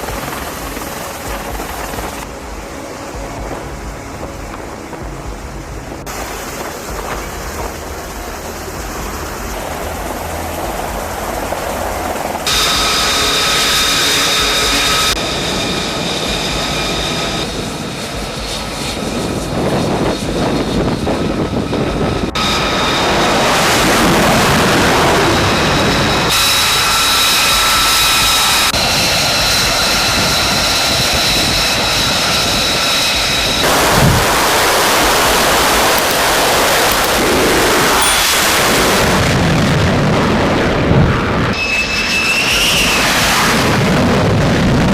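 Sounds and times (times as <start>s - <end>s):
jet engines whining: 0.0s - 44.8s.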